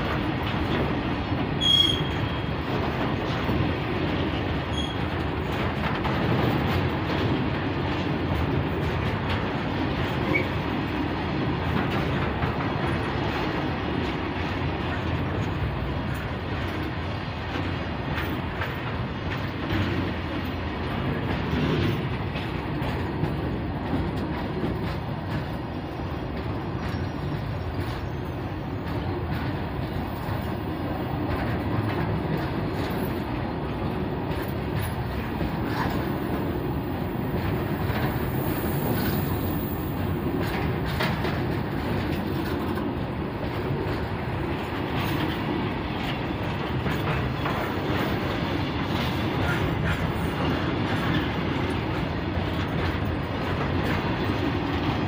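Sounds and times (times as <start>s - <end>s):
rumble of wheels on rail: 0.0s - 55.0s
wheels clacking over rail joints: 0.0s - 55.0s.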